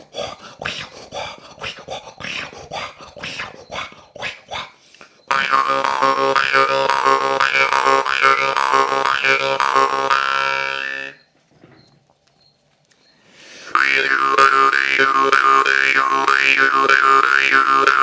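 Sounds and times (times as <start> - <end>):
jaw harp drone with wails: 0.0 - 11.2, 13.7 - 18.0.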